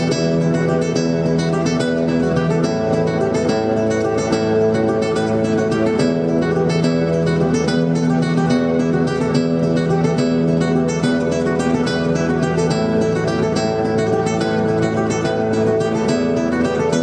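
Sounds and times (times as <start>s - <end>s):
fingerpicked classical guitar: 0.0s - 17.0s.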